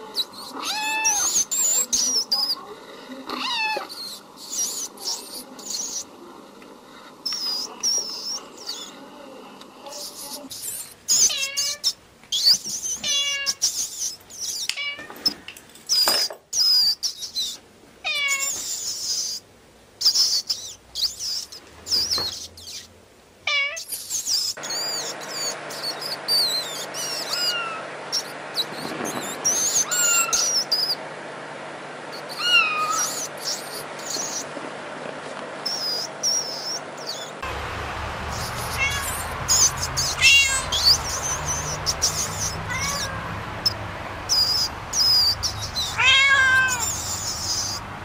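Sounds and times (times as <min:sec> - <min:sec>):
kitten squeaks and cries: 0:00.0 - 0:02.6, 0:03.3 - 0:06.0, 0:07.3 - 0:09.0, 0:09.9 - 0:19.4, 0:20.0 - 0:22.9, 0:23.5 - 0:31.0, 0:32.2 - 0:34.4, 0:35.6 - 0:37.4, 0:38.3 - 0:47.8.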